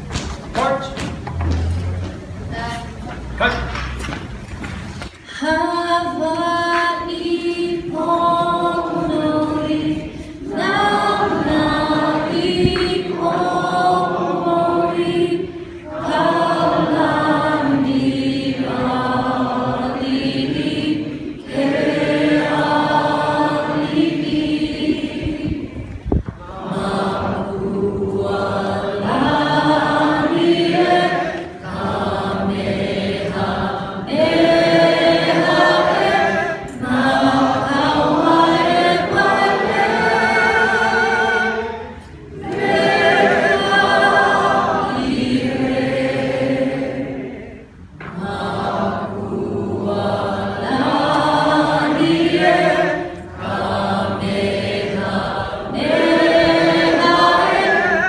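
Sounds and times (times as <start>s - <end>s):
group singing unaccompanied: 0.0s - 58.0s.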